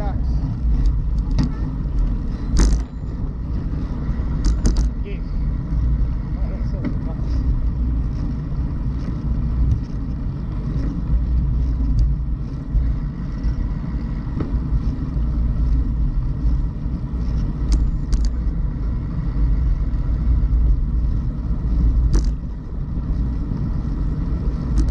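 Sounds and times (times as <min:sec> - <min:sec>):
tyre rolling on asphalt: 0:00.0 - 0:24.9
wind buffeting microphone: 0:00.0 - 0:24.9.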